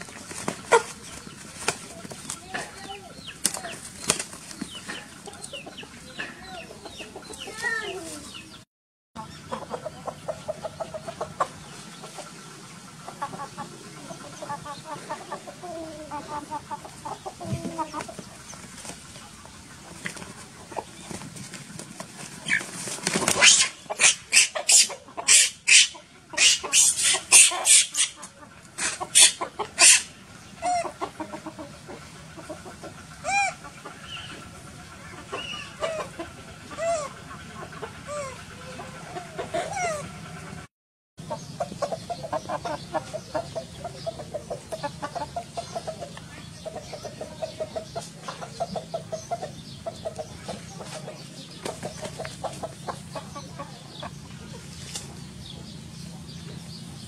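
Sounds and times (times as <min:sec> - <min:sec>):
chickens clucking: 0:00.0 - 0:08.6, 0:09.2 - 0:57.0
chickens squawking: 0:00.0 - 0:08.6, 0:09.2 - 0:56.9.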